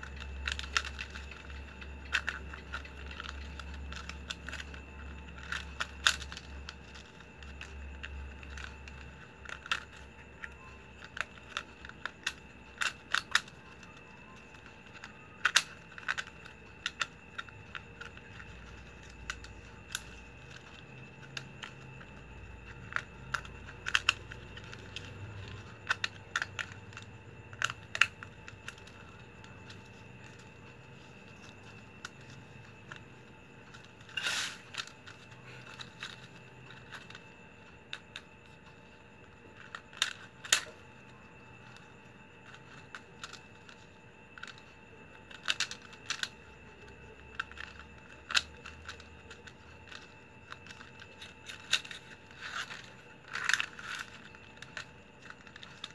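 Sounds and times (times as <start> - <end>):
faint steady hum: 0.0 - 55.9
plastic strips clicking and crinkling: 0.0 - 55.9.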